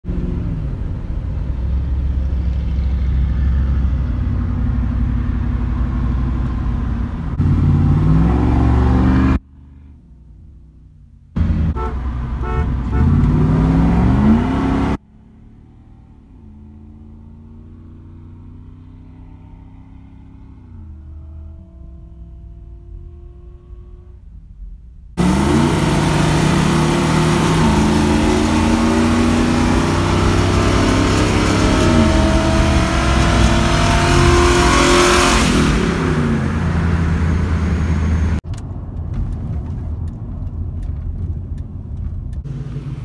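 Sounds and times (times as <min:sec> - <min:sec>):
truck engine revving: 0:00.0 - 0:09.7, 0:11.4 - 0:24.3, 0:25.2 - 0:38.4.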